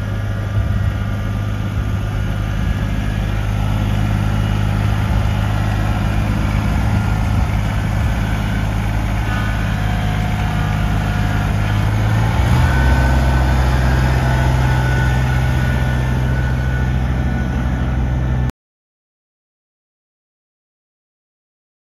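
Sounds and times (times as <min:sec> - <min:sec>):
tractor diesel engine running: 0:00.0 - 0:18.5.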